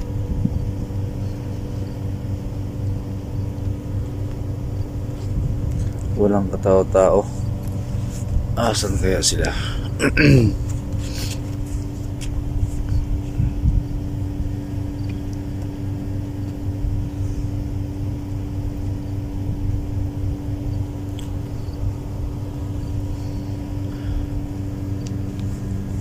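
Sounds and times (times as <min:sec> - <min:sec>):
machine hum: 0:00.0 - 0:26.0
uneven low rumble: 0:00.0 - 0:26.0.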